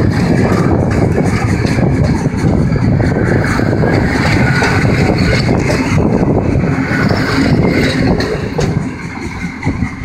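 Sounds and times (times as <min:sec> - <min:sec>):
train wheels rumbling over rails: 0:00.0 - 0:10.0.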